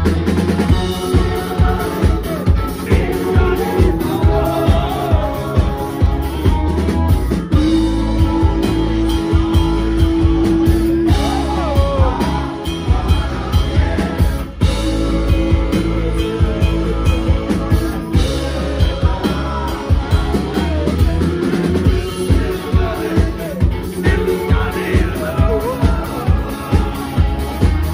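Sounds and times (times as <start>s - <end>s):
drum kit: 0.0s - 27.9s
electric guitar: 0.0s - 27.9s
person singing: 0.0s - 27.9s.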